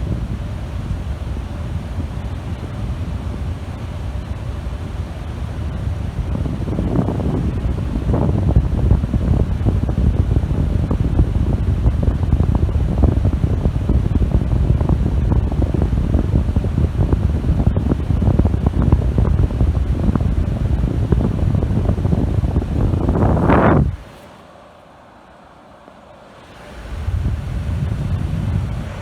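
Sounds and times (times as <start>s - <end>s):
wind buffeting microphone: 0.0s - 24.2s, 26.6s - 29.0s.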